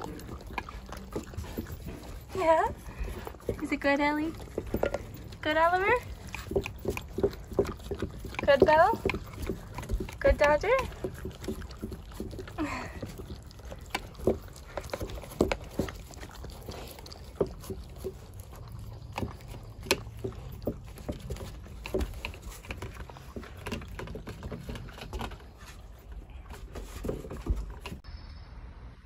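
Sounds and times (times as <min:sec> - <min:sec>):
puppies licking and lapping: 0:00.0 - 0:28.1.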